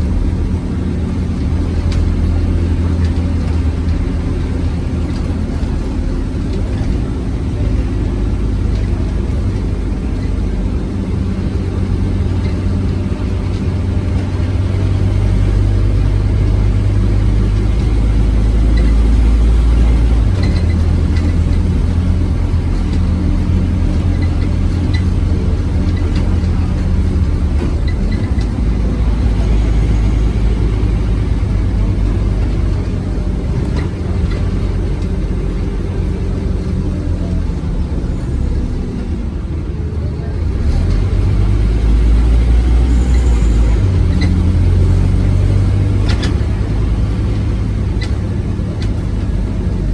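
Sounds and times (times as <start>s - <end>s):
bus engine drone: 0.0s - 49.9s.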